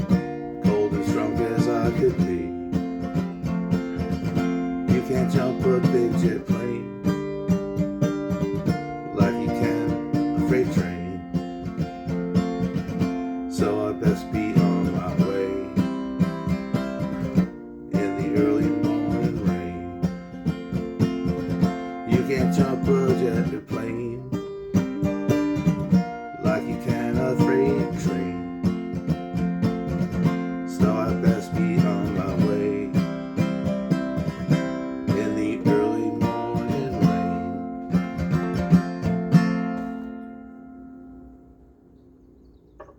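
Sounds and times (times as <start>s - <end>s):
acoustic guitar playing: 0.0s - 42.9s.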